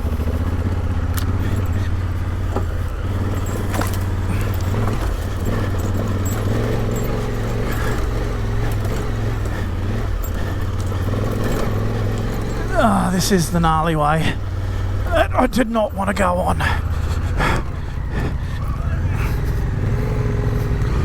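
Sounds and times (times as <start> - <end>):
motorcycle clicks and clatter: 0.0 - 13.5, 14.4 - 15.3, 16.6 - 21.0
motorcycle engine running: 0.0 - 21.0.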